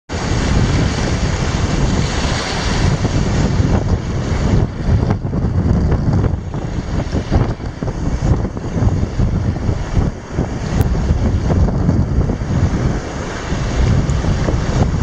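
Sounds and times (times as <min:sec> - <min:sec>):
strong wind buffeting microphone: 0:00.1 - 0:15.0.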